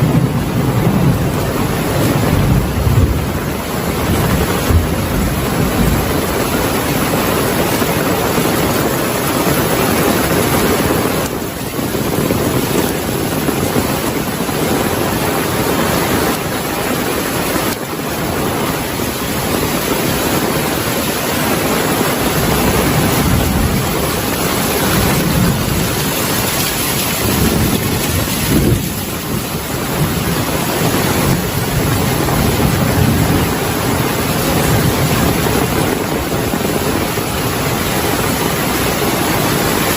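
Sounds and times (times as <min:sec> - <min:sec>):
heavy rain falling: 0:00.0 - 0:39.9
low thunder rumbles: 0:00.0 - 0:39.9.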